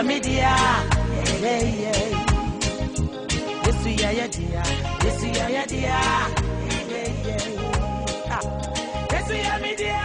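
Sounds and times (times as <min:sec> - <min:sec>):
gospel reggae music: 0:00.0 - 0:10.0.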